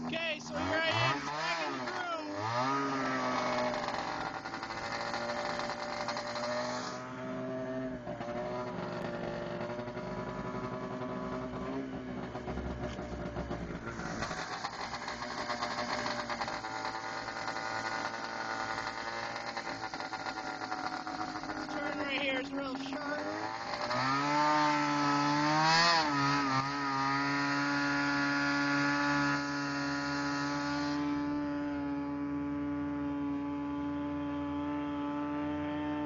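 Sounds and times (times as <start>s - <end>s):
snowmobile engine running: 0.0s - 36.0s.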